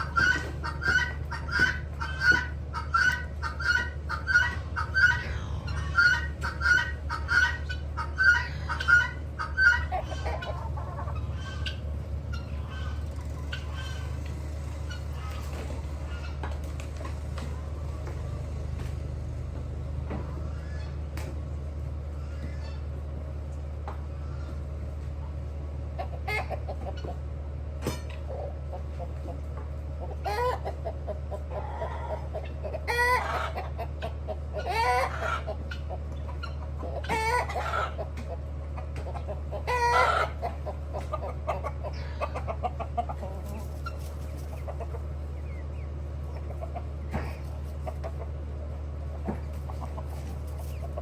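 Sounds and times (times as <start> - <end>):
chickens clucking and calling: 0.0 - 51.0
steady low hum: 0.0 - 51.0.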